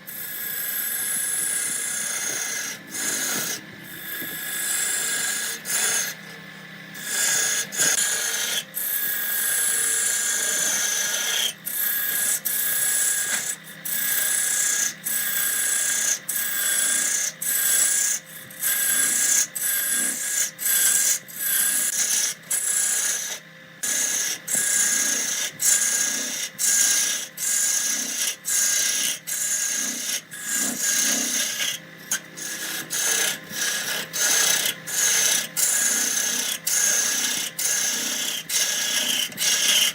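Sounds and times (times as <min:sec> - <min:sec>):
lathe tool scraping wood: 0:00.0 - 0:39.9
lathe whine: 0:00.0 - 0:39.9.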